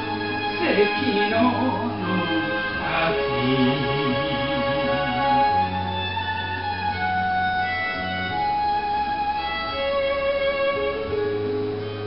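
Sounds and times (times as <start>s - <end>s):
slow instrumental melody: 0.0s - 12.0s
sustained bass notes: 0.0s - 12.0s.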